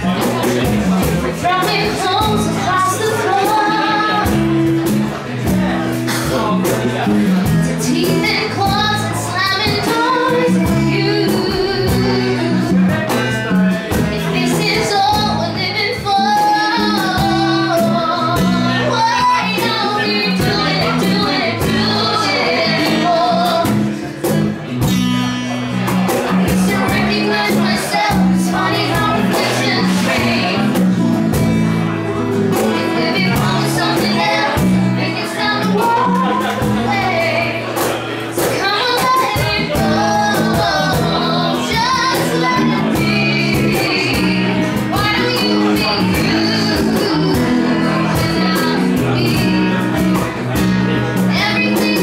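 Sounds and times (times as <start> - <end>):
guitars: 0.0 - 52.0
woman singing into microphone: 1.2 - 5.5, 7.4 - 24.4, 26.4 - 31.6, 32.3 - 52.0.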